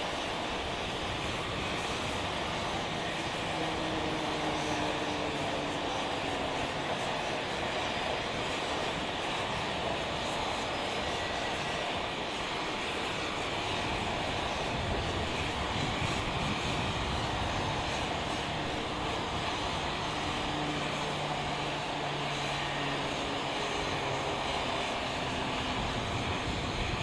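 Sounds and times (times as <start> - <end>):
aircraft engine rushing: 0.0 - 27.0.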